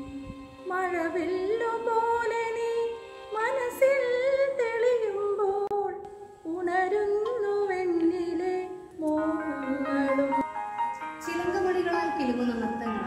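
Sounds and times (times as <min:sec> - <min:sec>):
woman singing slow melody: 0:00.0 - 0:10.6, 0:11.2 - 0:13.0.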